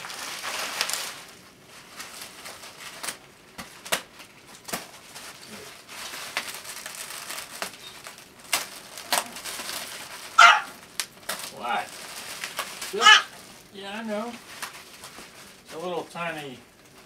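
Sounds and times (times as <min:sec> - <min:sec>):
bubble wrap snapping: 0:00.0 - 0:15.8
bubble wrap crinkling: 0:00.0 - 0:17.0.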